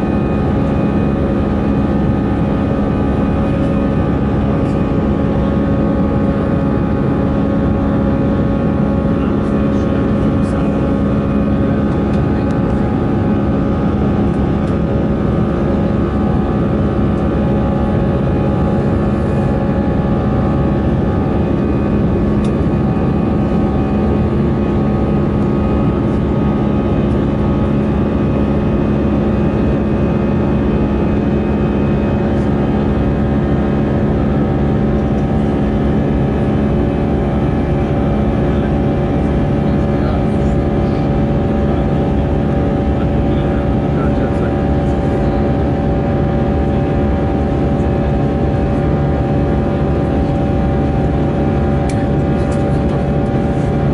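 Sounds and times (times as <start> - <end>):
jet airliner cabin drone: 0.0 - 53.9.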